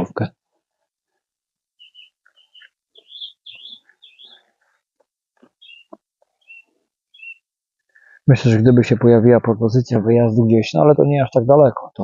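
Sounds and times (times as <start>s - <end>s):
songbirds chirping: 1.7s - 11.9s.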